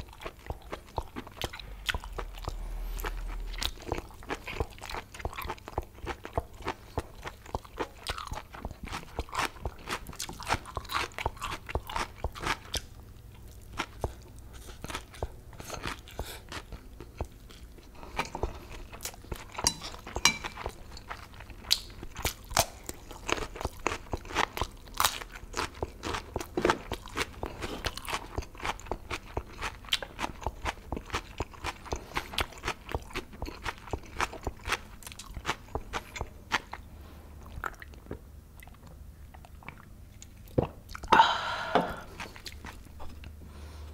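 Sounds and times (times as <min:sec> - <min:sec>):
close chewing with wet clicks: 0:00.0 - 0:36.8, 0:37.4 - 0:41.1.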